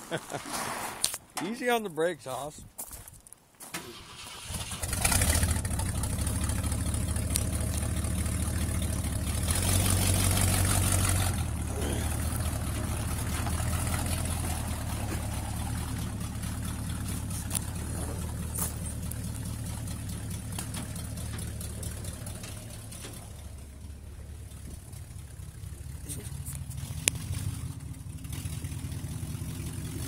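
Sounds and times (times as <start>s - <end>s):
engine starting and idling: 3.7s - 30.0s
loud raw exhaust: 4.4s - 30.0s.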